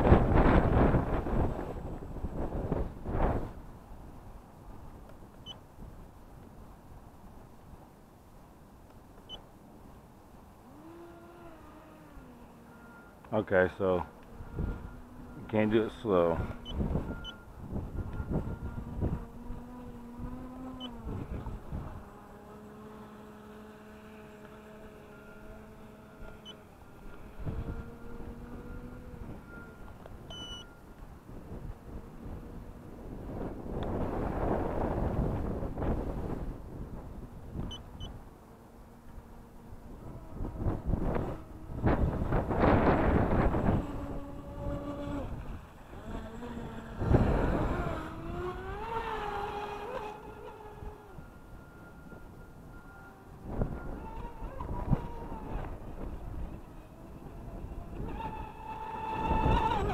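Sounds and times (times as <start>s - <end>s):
wind gust on microphone: 0.0s - 5.0s, 13.7s - 38.3s, 39.2s - 59.9s
electric motor whining: 10.6s - 59.9s.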